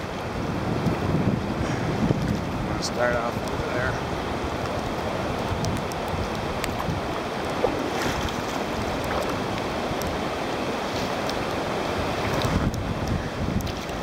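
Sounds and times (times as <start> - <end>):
river water rushing around boat: 0.0 - 14.0
wind buffeting microphone: 0.0 - 14.0.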